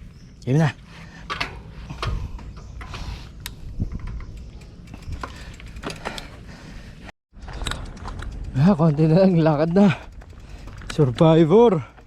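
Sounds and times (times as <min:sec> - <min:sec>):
bike clicks knocks and rattles: 0:01.2 - 0:06.5, 0:07.4 - 0:12.0.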